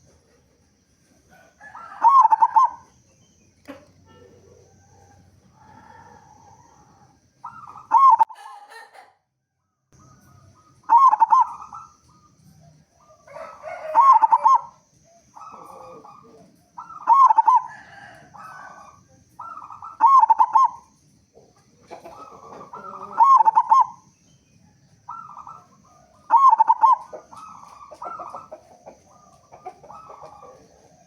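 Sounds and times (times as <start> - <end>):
dove cooing: 1.4 - 2.9, 4.1 - 9.0, 10.5 - 21.0, 21.7 - 24.1, 25.0 - 31.0.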